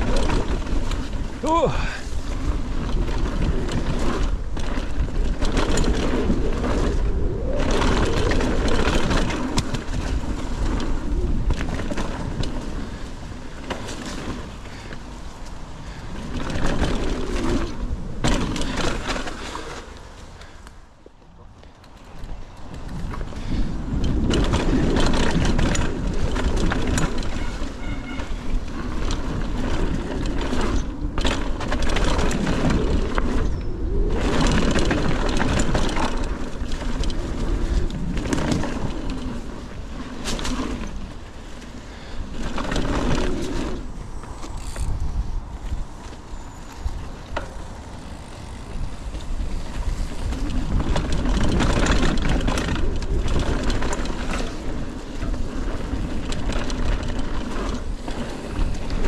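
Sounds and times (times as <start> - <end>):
bike rattling over bumps: 0.0 - 59.0
bike tyres crunching on dirt: 0.0 - 59.0
wind rumbling on microphone: 0.0 - 59.0.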